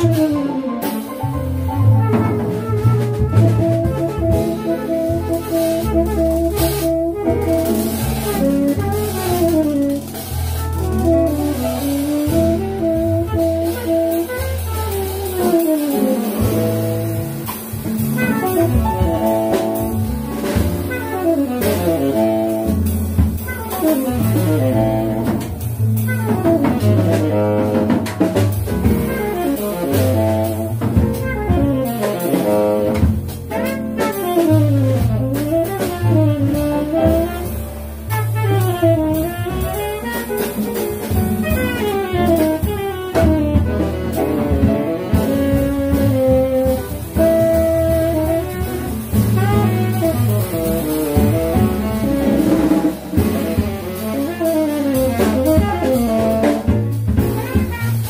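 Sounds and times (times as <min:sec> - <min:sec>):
saxophone melody: 0:00.0 - 0:28.1, 0:28.8 - 0:58.0
drum kit: 0:00.0 - 0:58.0
piano: 0:00.0 - 0:58.0
walking double bass: 0:00.0 - 0:58.0.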